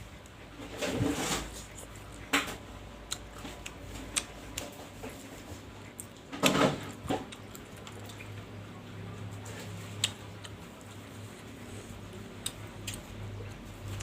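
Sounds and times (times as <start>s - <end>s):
person eating close up: 0.0s - 14.0s
chewing: 0.2s - 14.0s.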